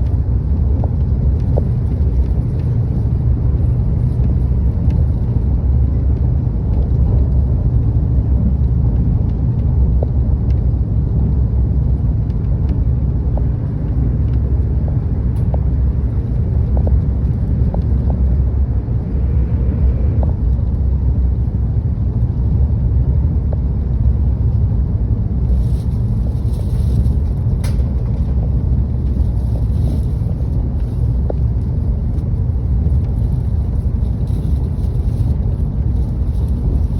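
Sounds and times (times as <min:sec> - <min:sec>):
train low rumble: 0:00.0 - 0:36.9.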